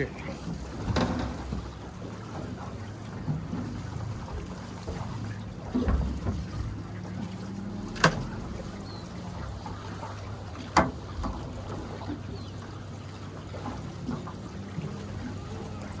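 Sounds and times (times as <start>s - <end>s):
boat motor hum: 0.0s - 16.0s
water lapping: 0.0s - 16.0s.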